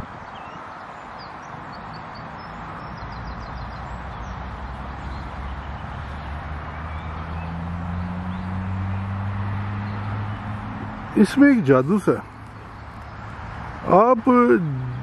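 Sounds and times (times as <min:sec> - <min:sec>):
small birds chirping: 0:00.0 - 0:15.0
steady outdoor hiss: 0:00.0 - 0:15.0
low engine hum: 0:01.6 - 0:15.0.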